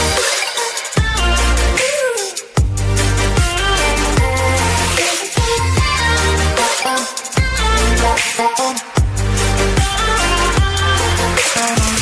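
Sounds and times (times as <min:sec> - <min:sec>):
dubstep music with heavy bass: 0:00.0 - 0:12.0.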